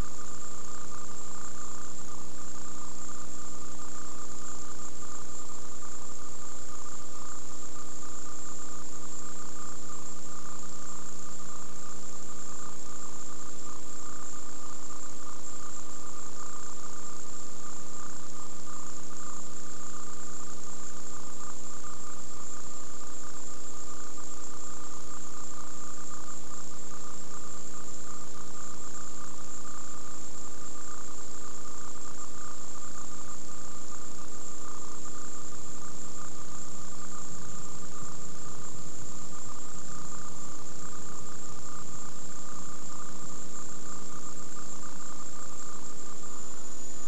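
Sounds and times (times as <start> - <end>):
videotape hiss: 0.0 - 47.0.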